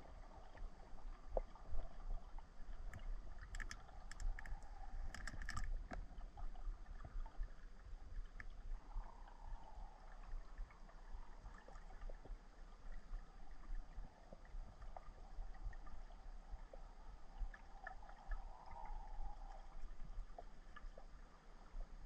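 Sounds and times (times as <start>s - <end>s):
faint scattered clicks and ticks: 0.0s - 22.0s
low underwater rumble: 0.0s - 22.0s
soft hiss: 0.0s - 22.0s.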